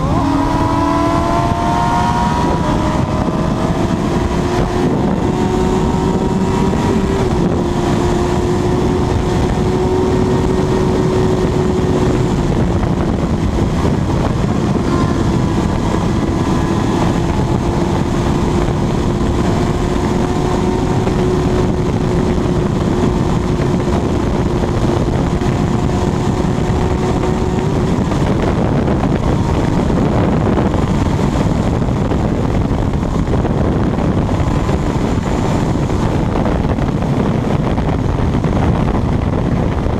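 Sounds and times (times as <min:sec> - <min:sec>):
motorcycle engine at high revs: 0:00.0 - 0:39.9
wind rush on microphone: 0:00.0 - 0:39.9.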